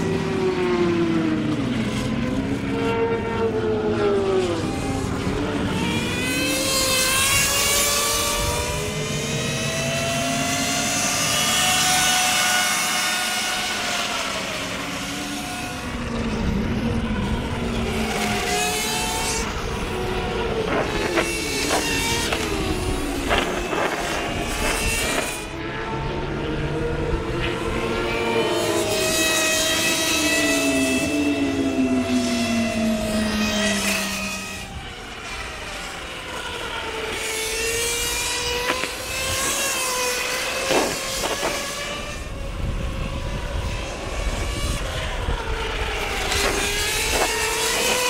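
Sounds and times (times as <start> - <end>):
electric motors whining: 0.0 - 48.0.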